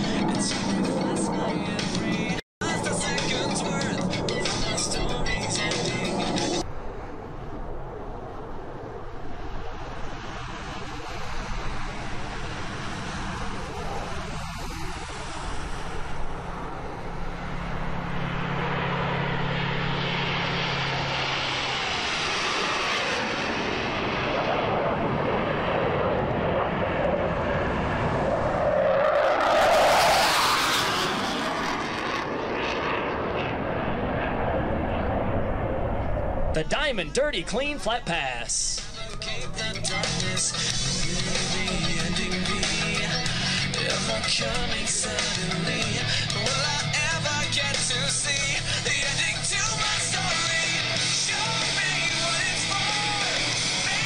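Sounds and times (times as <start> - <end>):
jets flying past roaring: 0.0 - 54.0.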